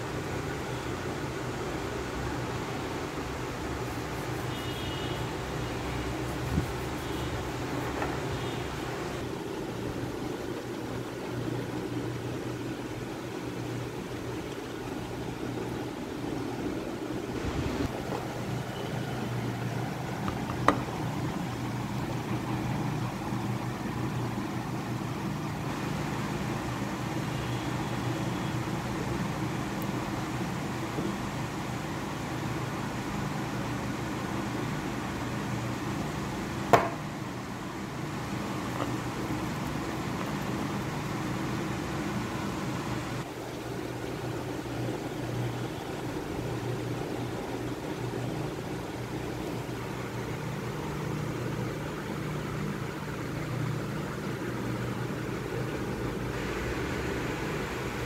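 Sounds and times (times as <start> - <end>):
low mechanical hum: 0.0 - 58.0
steady hiss: 0.0 - 58.0.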